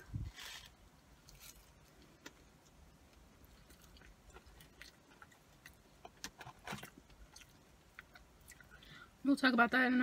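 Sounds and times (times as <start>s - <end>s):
chewing fries: 0.4s - 8.8s.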